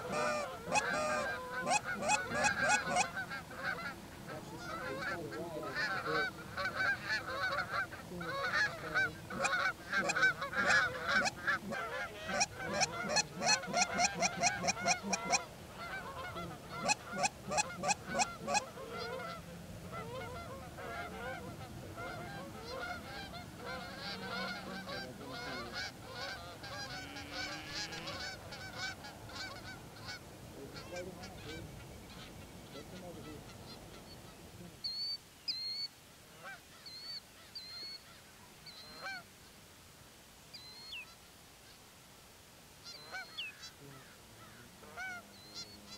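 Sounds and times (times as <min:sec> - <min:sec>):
geese honking: 0:00.0 - 0:39.6, 0:40.5 - 0:41.8, 0:42.8 - 0:45.9.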